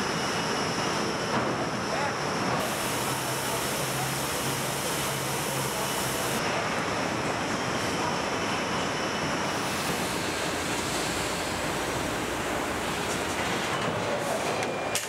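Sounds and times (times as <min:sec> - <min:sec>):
factory hall rushing noise: 0:00.0 - 0:15.0.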